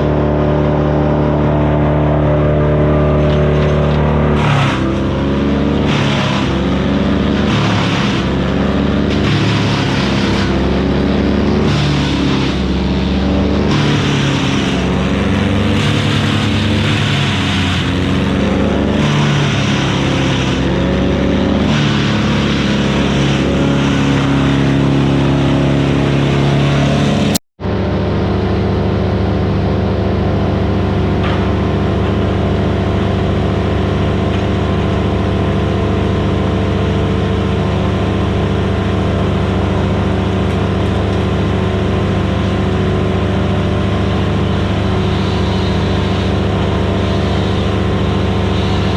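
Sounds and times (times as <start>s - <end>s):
wood chipper running: 0.0s - 48.9s.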